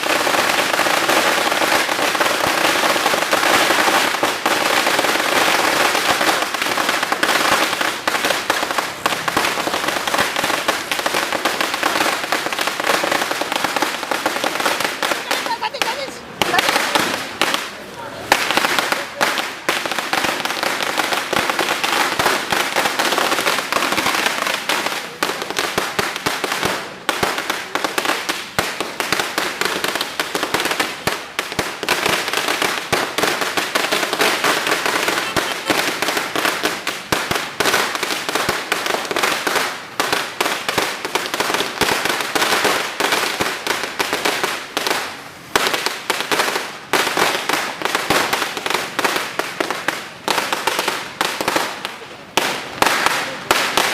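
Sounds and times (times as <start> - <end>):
firecracker string cracking: 0.0 - 44.2.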